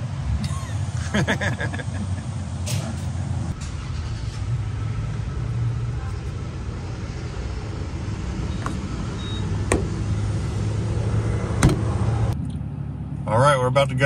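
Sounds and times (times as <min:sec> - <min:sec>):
low vehicle engine rumble: 0:00.0 - 0:14.0.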